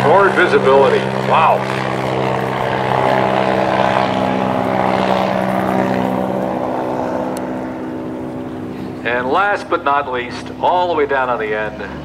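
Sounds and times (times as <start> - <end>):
light airplane engine droning: 0.0 - 12.0.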